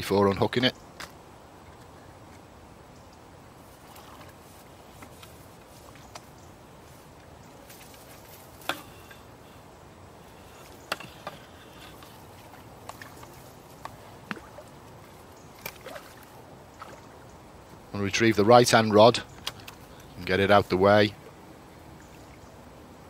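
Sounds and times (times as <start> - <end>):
faint outdoor background: 0.0 - 23.0.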